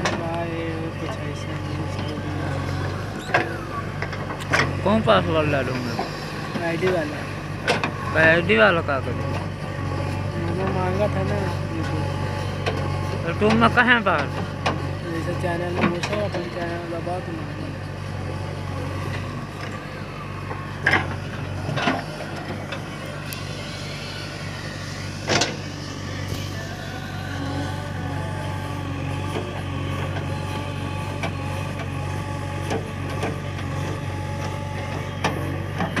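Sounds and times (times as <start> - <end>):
backhoe digging and dumping soil: 0.0 - 36.0
diesel engine running: 0.0 - 36.0.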